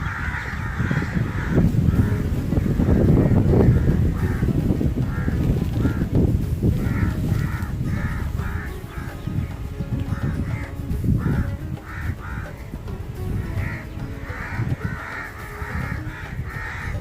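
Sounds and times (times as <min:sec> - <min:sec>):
crows cawing: 0:00.0 - 0:06.1, 0:06.7 - 0:17.0
wind rumbling on microphone: 0:00.0 - 0:17.0.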